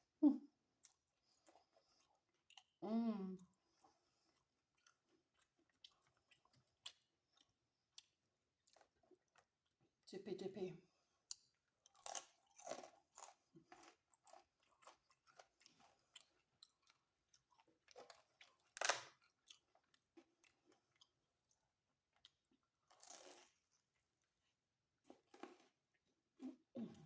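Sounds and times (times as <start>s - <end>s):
chewing crunchy pizza: 0.7s - 2.8s, 3.4s - 10.0s, 11.0s - 27.0s.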